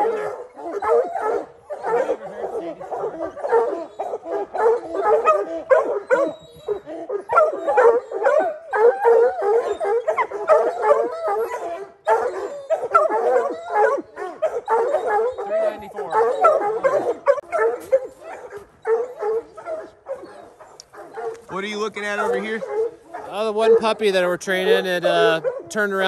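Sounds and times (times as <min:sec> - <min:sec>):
hounds barking and baying: 0:00.0 - 0:26.0.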